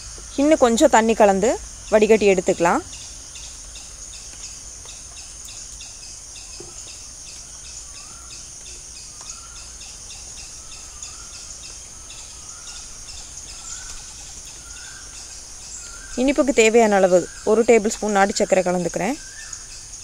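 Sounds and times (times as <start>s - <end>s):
bird chirping: 0.0s - 20.0s
insects droning and pulsing: 0.0s - 20.0s.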